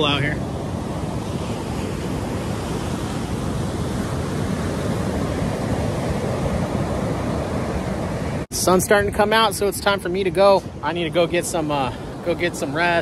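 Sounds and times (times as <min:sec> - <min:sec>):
wind on microphone: 0:00.0 - 0:10.8
ocean surf breaking on beach: 0:00.0 - 0:13.0.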